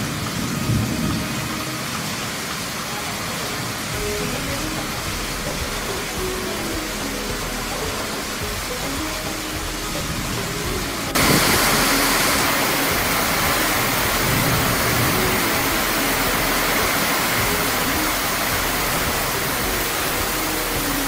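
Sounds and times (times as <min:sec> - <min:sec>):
heavy rain on pavement and roof: 0:00.0 - 0:21.0
runoff pouring off roof: 0:00.0 - 0:21.0.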